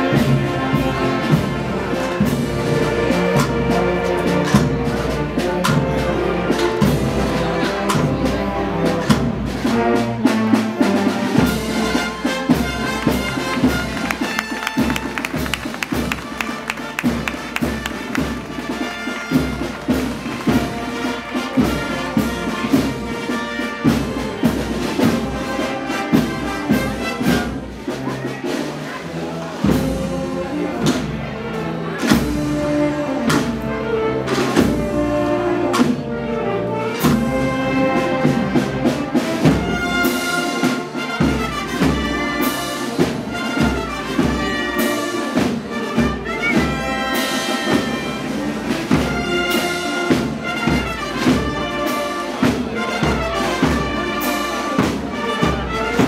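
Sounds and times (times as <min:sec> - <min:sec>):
brass band music: 0:00.0 - 0:56.0.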